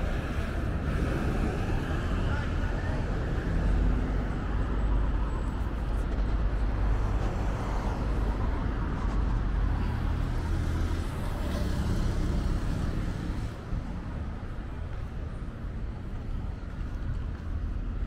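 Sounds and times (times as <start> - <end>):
cars passing on highway: 0.0 - 18.0.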